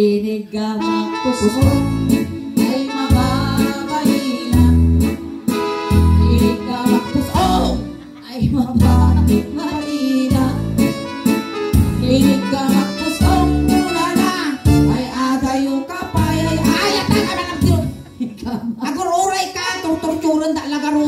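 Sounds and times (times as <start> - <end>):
woman singing into microphone: 0.0 - 11.1, 11.9 - 18.5
amplified band music: 0.8 - 18.2.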